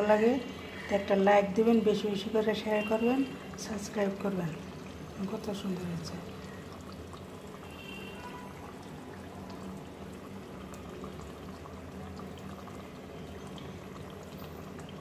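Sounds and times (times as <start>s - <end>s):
curry bubbling in a pot: 0.0s - 15.0s
low steady hum: 0.0s - 15.0s.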